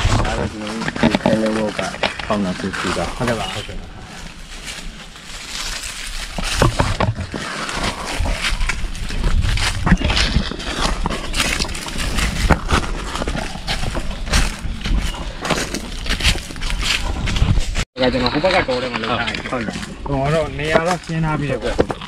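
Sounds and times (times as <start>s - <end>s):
footsteps crunching dry leaves: 0.0s - 22.0s.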